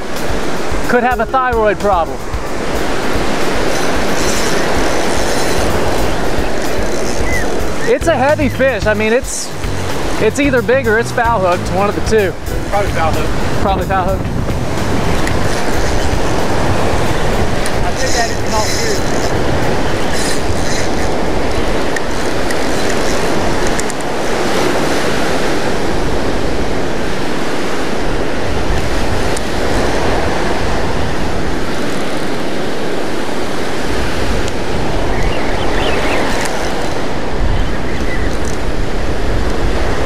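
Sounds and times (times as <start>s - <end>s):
surf breaking on a beach: 0.0s - 10.4s, 11.1s - 40.0s
wind buffeting the microphone: 1.6s - 40.0s.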